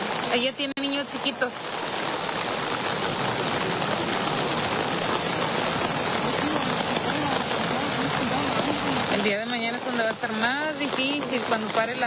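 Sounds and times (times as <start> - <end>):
heavy rain on umbrella: 0.0 - 12.0.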